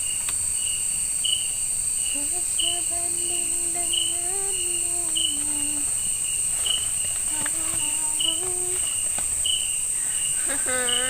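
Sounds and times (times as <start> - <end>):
insect chirp: 0.0 - 11.0
insects droning: 0.0 - 11.0.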